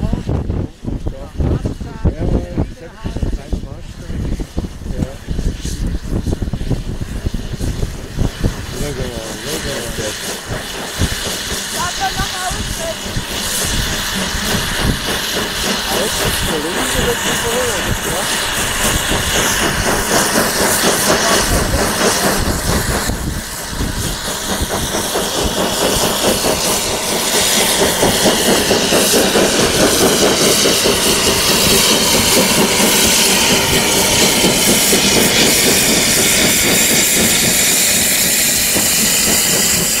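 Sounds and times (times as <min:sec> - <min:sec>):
machinery running: 0:00.0 - 0:40.0.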